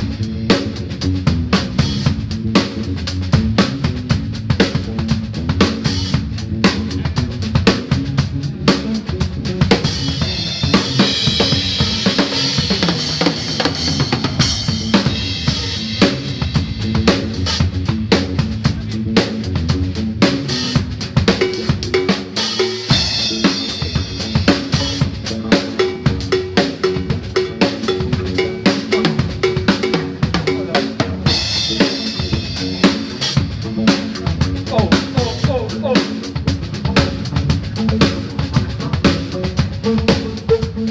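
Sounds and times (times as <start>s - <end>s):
drum kit playing: 0.0s - 40.9s
held pitched notes: 5.8s - 40.9s.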